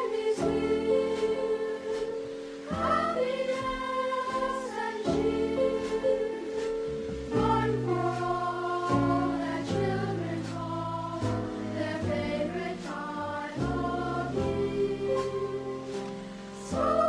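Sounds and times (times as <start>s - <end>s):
song with singing: 0.0s - 17.0s.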